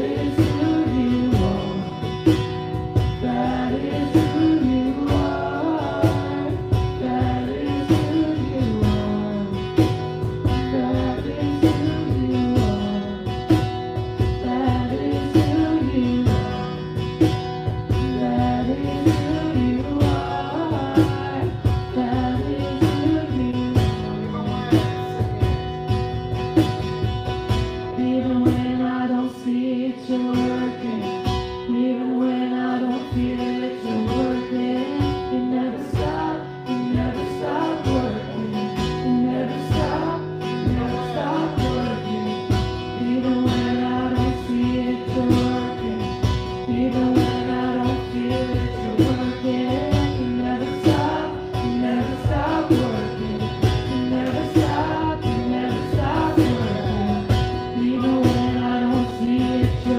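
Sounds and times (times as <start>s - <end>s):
woman singing into a microphone: 0.0s - 25.4s, 27.8s - 59.9s
cajon beats: 0.0s - 59.9s
strummed acoustic guitar: 0.0s - 59.9s.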